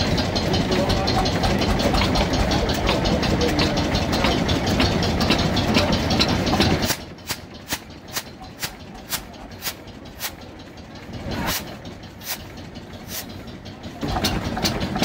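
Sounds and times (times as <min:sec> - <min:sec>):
diesel generator running: 0:00.0 - 0:15.0.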